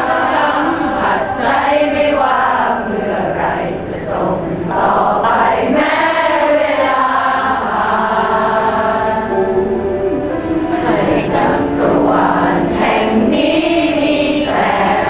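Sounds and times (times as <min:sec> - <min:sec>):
group singing: 0:00.0 - 0:15.0.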